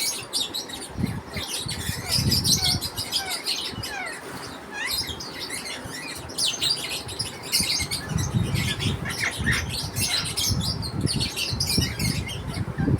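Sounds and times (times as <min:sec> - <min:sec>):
lovebirds chirping and squawking: 0:00.0 - 0:12.9.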